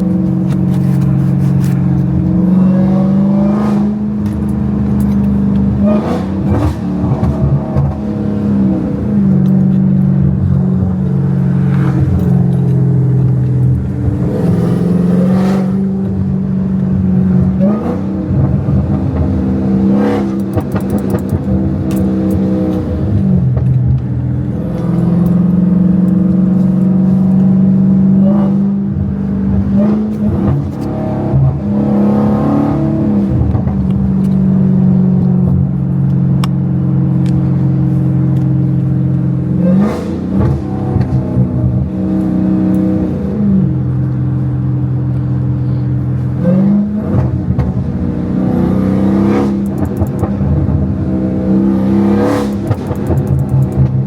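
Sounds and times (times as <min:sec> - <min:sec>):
loud car engine revving: 0:00.0 - 0:54.0.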